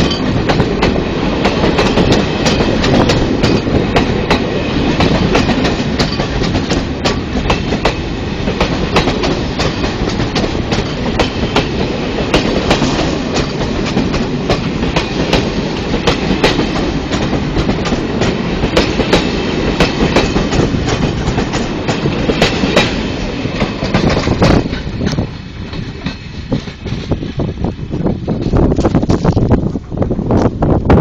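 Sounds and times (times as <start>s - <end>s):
train coaches rumbling past: 0.0s - 31.0s.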